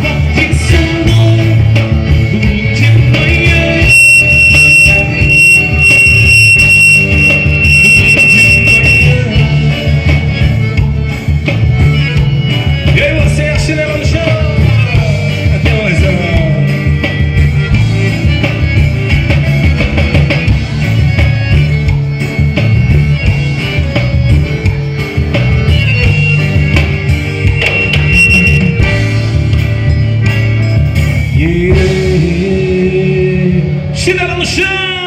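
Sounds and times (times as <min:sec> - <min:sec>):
folk band music with steady beat: 0:00.0 - 0:33.6.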